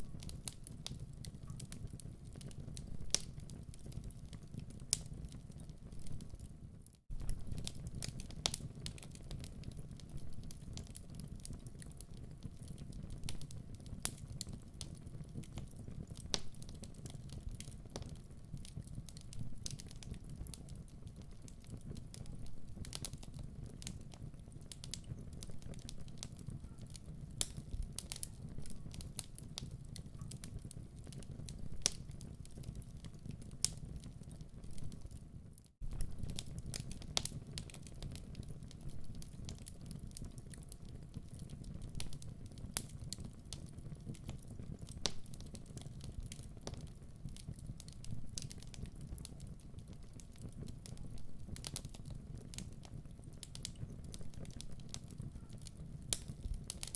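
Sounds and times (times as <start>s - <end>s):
log fire crackling: 0.0s - 56.9s
low rumble of flames: 0.0s - 56.9s.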